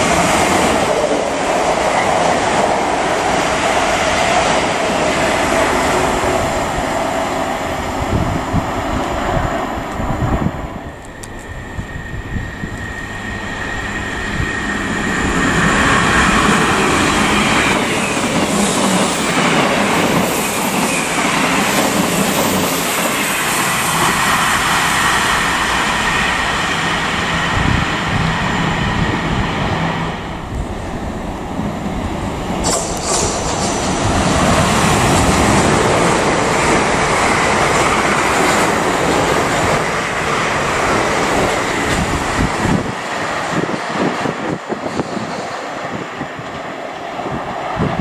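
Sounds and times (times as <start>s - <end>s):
diesel train under power: 0.0s - 48.0s
electric train whine: 0.0s - 48.0s
train wheels on rails: 0.0s - 48.0s.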